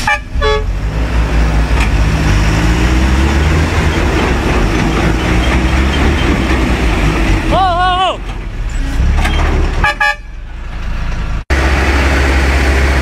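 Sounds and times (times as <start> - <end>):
heavy diesel truck engines under load: 0.0 - 13.0.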